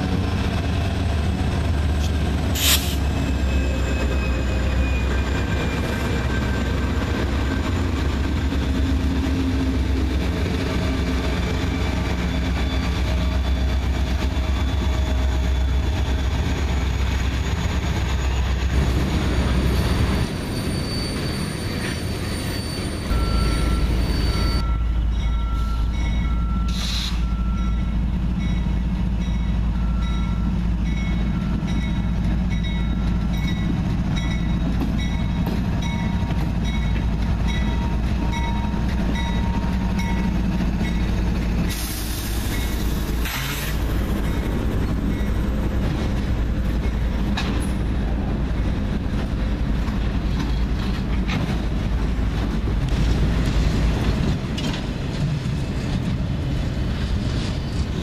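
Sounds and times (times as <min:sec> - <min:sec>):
diesel locomotive engine rumble: 0:00.0 - 0:58.0
train wheel noise: 0:00.0 - 0:58.0.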